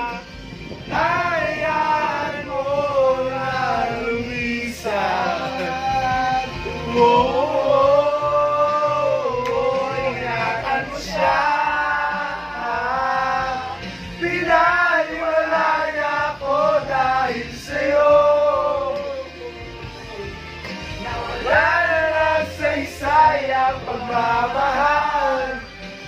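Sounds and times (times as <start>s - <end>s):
group of people singing: 0.0s - 26.0s
music: 0.0s - 26.0s.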